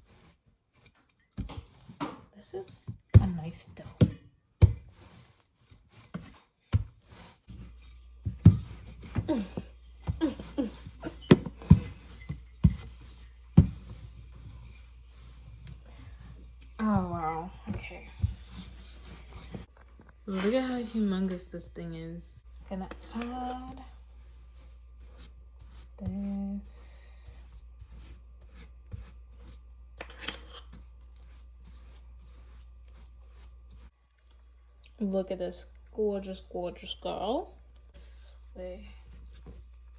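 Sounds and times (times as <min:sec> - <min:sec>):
hands and utensil working dough: 0:00.0 - 0:21.6, 0:22.4 - 0:39.9.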